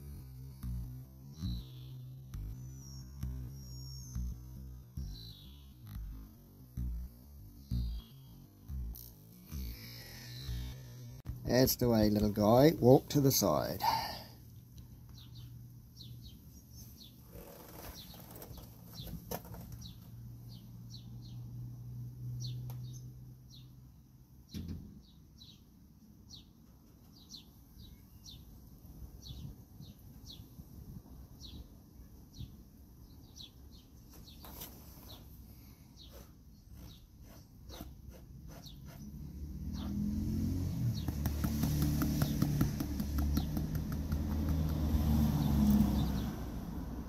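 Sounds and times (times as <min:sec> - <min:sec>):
small bird chirping: 0:00.0 - 0:13.8, 0:15.1 - 0:23.8, 0:29.2 - 0:46.7.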